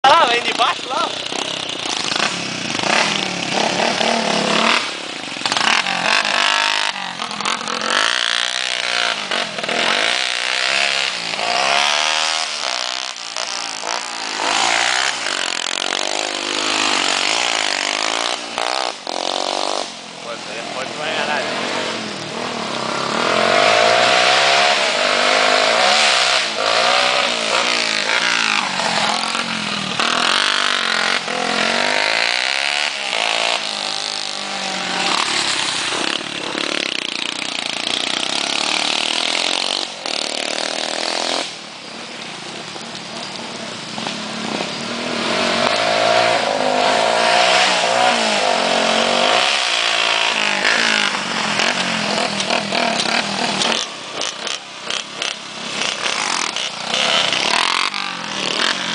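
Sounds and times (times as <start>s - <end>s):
two-stroke engine revving: 0.0s - 41.6s, 44.0s - 58.9s.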